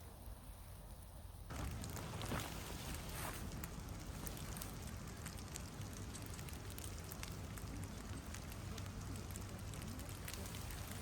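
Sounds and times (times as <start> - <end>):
faint outdoor hiss: 0.0 - 11.0
small irregular clicks: 1.5 - 11.0.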